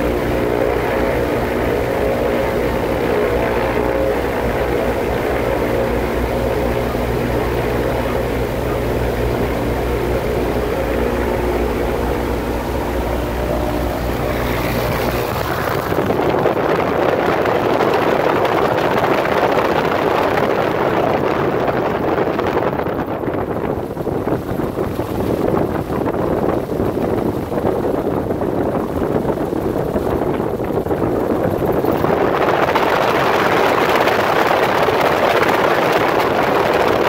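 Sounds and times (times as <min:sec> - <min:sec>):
motor glider engine hum: 0:00.0 - 0:37.0
propeller wash on microphone: 0:00.0 - 0:37.0.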